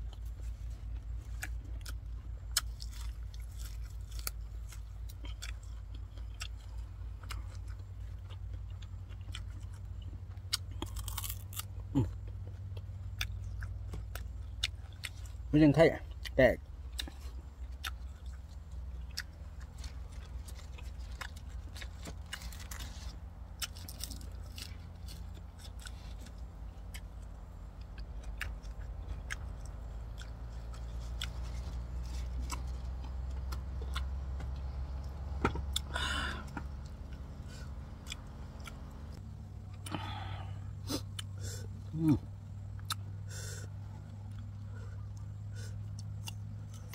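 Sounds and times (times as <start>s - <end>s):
crunchy vegetable chewing: 0.0s - 46.9s
steady low hum: 0.0s - 46.9s.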